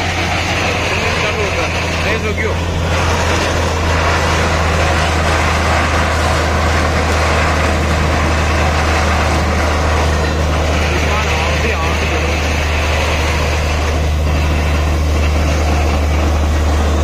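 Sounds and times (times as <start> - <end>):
drilling rig engine drone: 0.0 - 17.0
water and slurry gushing: 0.0 - 17.0.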